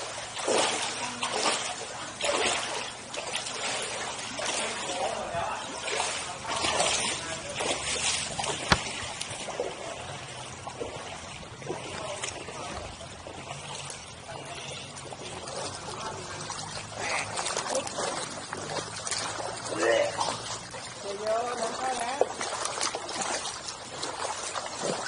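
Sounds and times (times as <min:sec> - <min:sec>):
wading through floodwater: 0:00.0 - 0:25.0.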